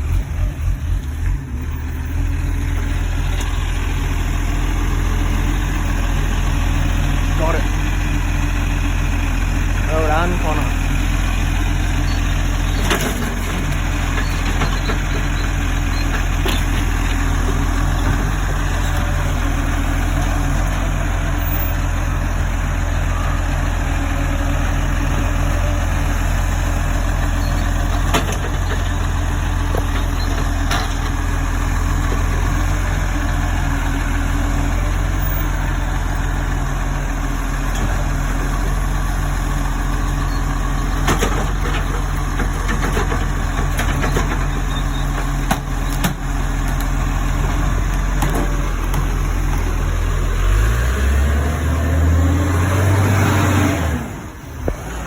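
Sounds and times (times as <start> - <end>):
garbage truck engine running: 0.0 - 55.0.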